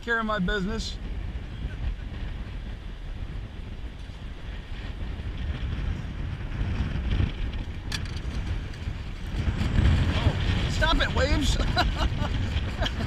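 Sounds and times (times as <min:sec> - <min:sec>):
wind buffeting microphone: 0:00.0 - 0:13.0
choppy water: 0:00.9 - 0:13.0.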